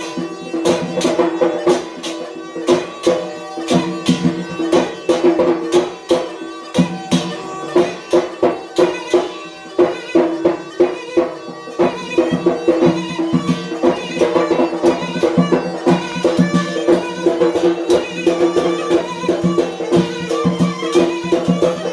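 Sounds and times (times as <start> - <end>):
reedy double-reed pipe tune: 0.0 - 21.9.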